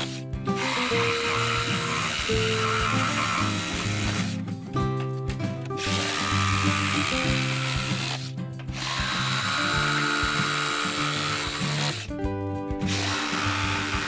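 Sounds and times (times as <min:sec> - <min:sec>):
reciprocating saw cutting wood: 0:00.0 - 0:04.5, 0:05.8 - 0:12.2, 0:12.8 - 0:14.0
background music: 0:00.0 - 0:14.0.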